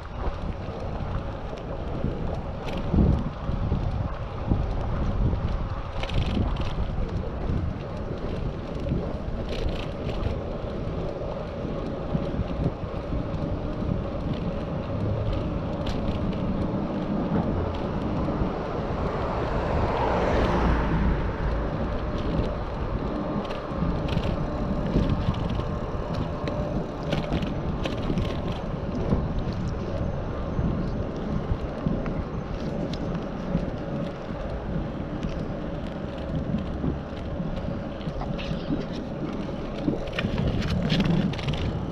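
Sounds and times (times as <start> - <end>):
bicycle rolling on road: 0.0 - 41.9
wind buffeting microphone: 0.0 - 41.9.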